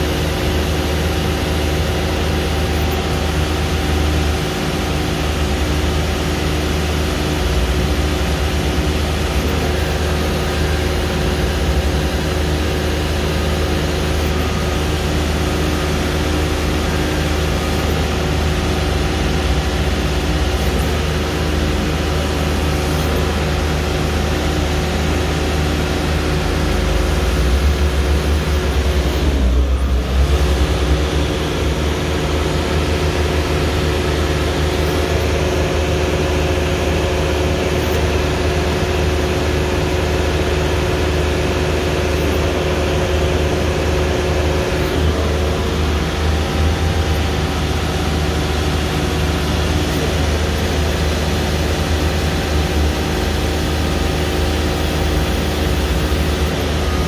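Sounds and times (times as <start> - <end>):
drill rig engine running: 0.0 - 57.0.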